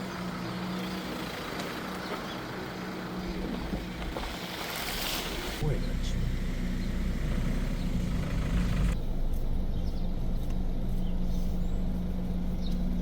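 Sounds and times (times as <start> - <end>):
vehicle engine idling: 0.0 - 4.2, 5.6 - 13.0.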